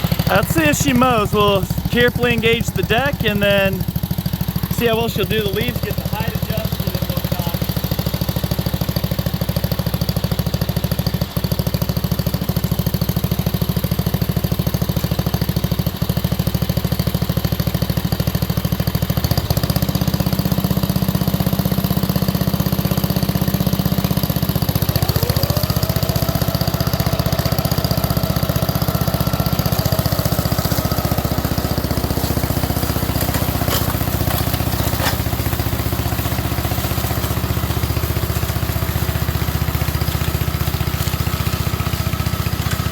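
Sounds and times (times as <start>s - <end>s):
mower deck whine: 0.0s - 42.9s
mower engine running: 0.0s - 42.9s.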